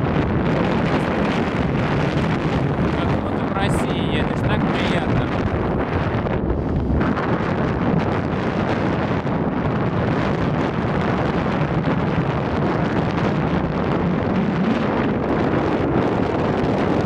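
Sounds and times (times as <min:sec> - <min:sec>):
low engine drone: 0:00.0 - 0:17.0
wind rushing over microphone: 0:00.0 - 0:17.0.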